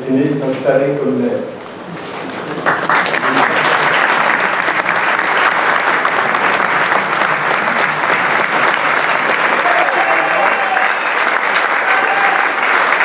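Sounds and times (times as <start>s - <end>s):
crowd applauding: 2.3s - 13.0s.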